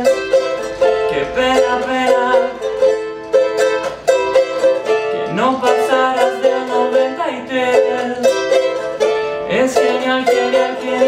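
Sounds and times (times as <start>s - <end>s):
ukulele picked melody: 0.0s - 11.0s.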